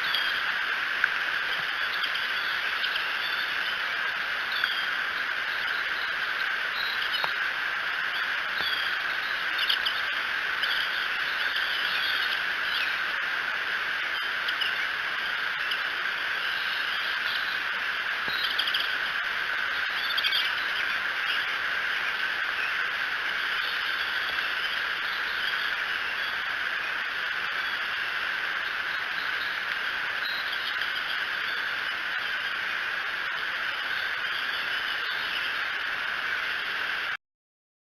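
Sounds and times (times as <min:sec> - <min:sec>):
steady outdoor hiss: 0:00.0 - 0:37.2.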